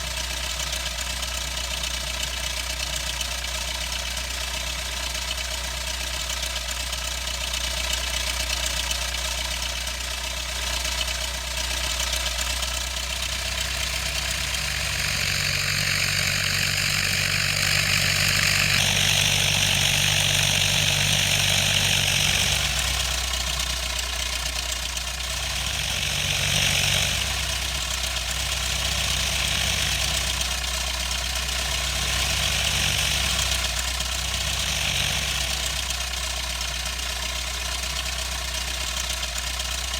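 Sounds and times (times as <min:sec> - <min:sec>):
small plane engine and propeller: 0:00.0 - 0:39.9.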